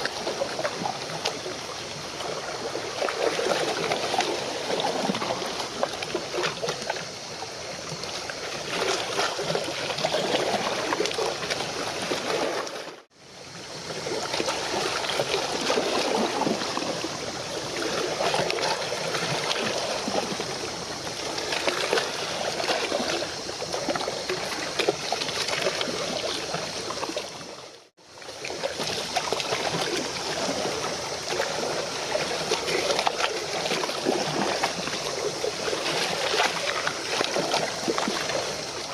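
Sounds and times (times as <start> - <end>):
water lapping and trickling: 0.0 - 38.9.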